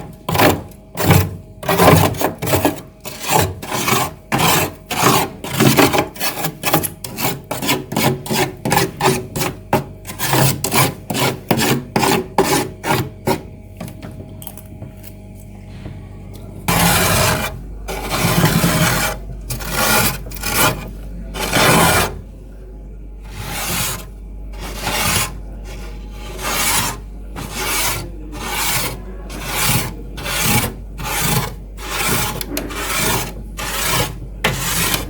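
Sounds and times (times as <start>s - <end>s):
frost being scraped: 0.0s - 13.5s, 16.7s - 22.2s, 23.3s - 35.0s.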